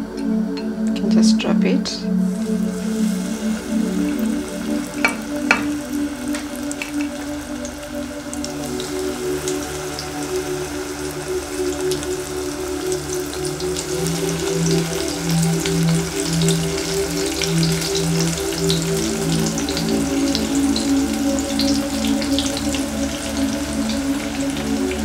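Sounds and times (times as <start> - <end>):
background music with low beat: 0.0 - 25.0
food frying in hot oil: 2.2 - 25.0.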